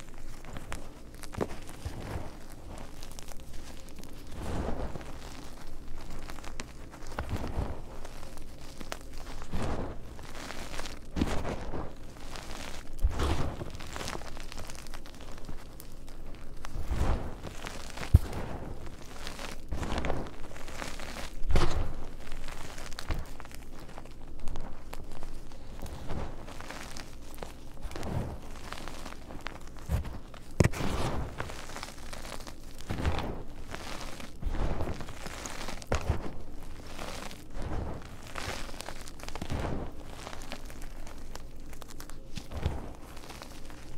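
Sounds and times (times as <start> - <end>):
chalk crushed by hand: 0.0 - 43.9.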